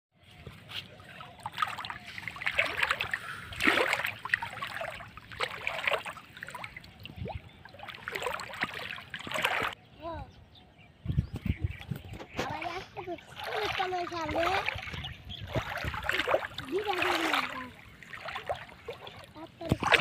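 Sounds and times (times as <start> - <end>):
river water splashing from wading: 0.3 - 9.8, 12.5 - 20.0.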